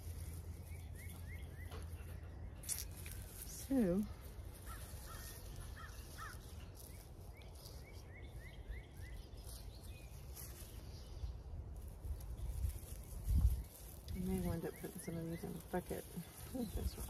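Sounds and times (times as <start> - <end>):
faint songbird chirps: 0.0 - 17.0
low outdoor rumble: 0.0 - 17.0.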